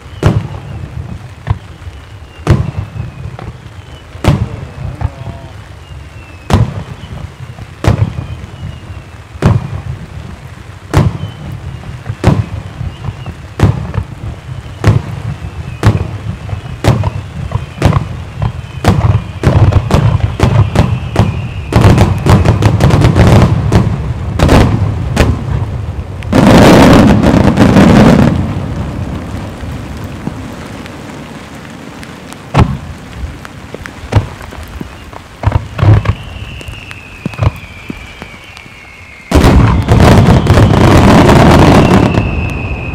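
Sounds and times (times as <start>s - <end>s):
fireworks bursting with booms: 0.0s - 42.9s.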